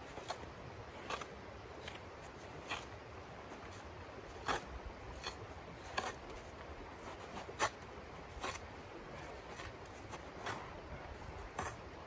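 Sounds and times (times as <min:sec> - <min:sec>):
shovel scraping snow: 0:00.0 - 0:11.9.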